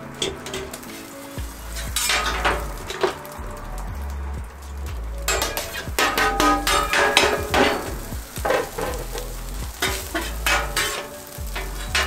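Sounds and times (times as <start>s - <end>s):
metal spatula scraping a griddle: 0.0s - 3.4s, 5.3s - 12.0s
rice sizzling in oil: 0.0s - 12.0s.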